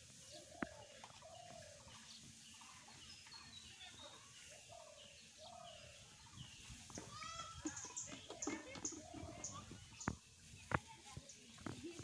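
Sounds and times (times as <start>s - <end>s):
outdoor background noise: 0.0s - 12.0s
faint bird calls: 0.2s - 10.8s.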